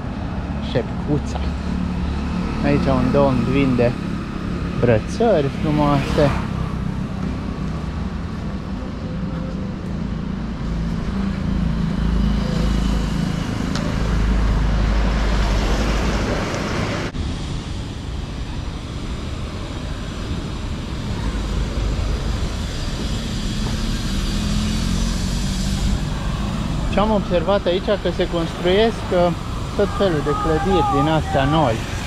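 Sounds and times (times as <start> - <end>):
vehicle engines passing: 0.0 - 32.0.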